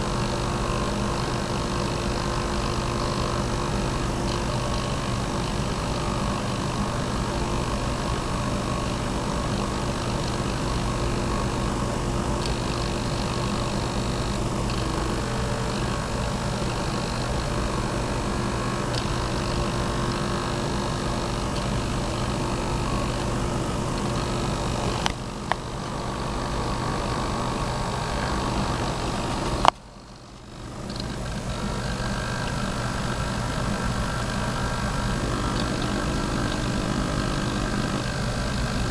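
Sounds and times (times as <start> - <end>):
constant hum: 0.0 - 38.9
servo motors whining: 0.1 - 38.9.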